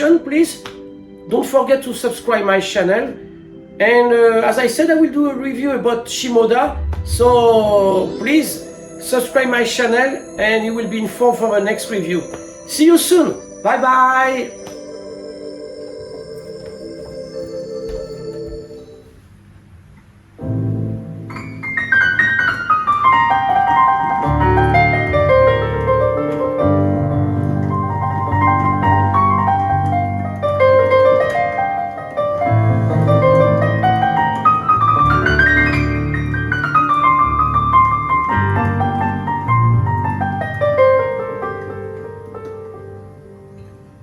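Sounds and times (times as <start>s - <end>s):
piano music: 0.0s - 19.3s, 20.4s - 44.0s.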